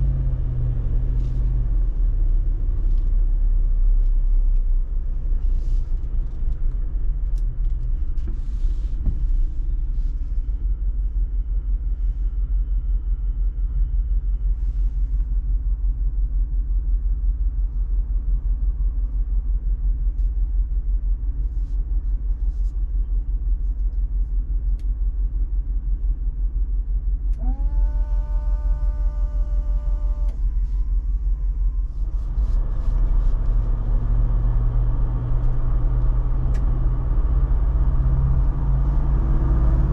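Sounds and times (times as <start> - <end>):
engine rumbling at low revs: 0.0 - 39.9.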